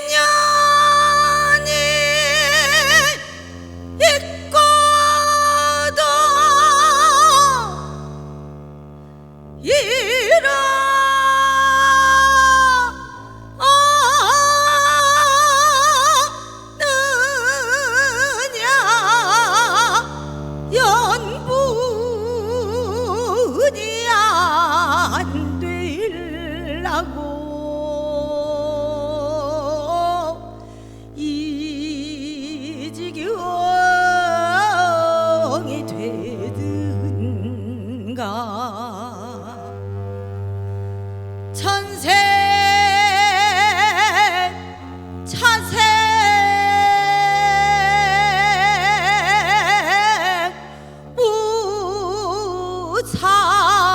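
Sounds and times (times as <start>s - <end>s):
sustained low bass notes: 0.0s - 53.9s.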